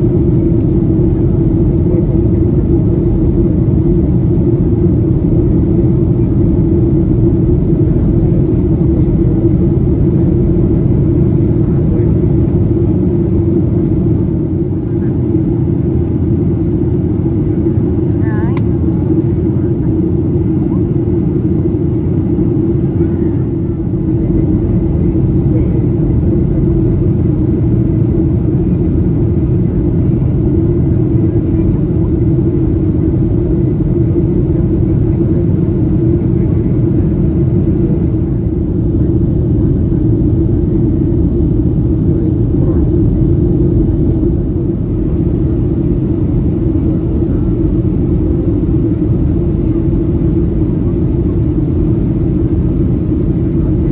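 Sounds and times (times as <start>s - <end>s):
jet engines droning: 0.0s - 53.9s
steady hum: 0.0s - 53.9s.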